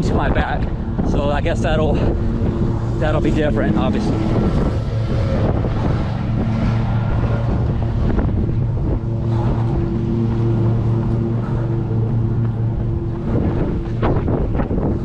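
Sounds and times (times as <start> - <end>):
low hum: 0.0 - 15.0
wind buffeting microphone: 0.0 - 15.0.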